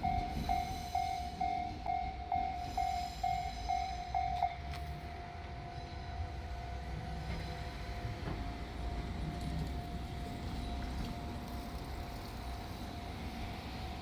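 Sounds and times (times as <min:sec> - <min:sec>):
diesel railcar rumbling: 0:00.0 - 0:14.0.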